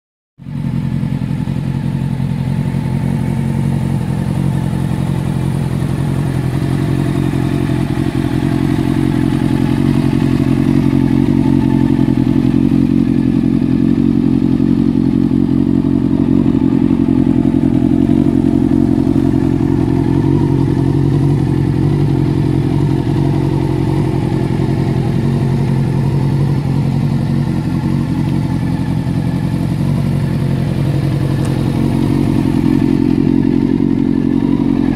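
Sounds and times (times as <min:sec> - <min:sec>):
motorcycle engine idling: 0:00.4 - 0:34.9.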